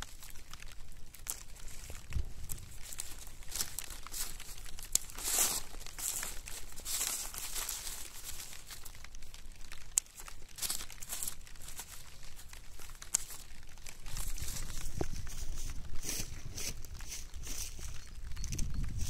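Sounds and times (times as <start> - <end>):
dry leaves crackling on plastic: 0.0 - 19.0.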